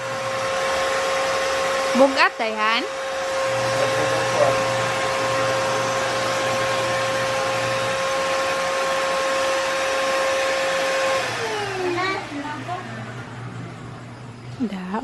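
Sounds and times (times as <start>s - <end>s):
handheld vacuum cleaner running: 0.0s - 15.0s.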